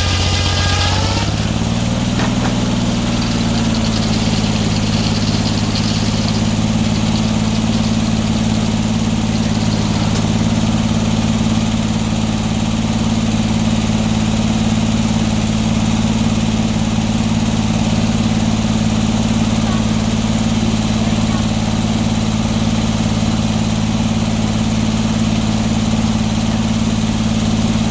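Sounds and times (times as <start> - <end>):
sawmill engine droning: 0.0 - 27.9.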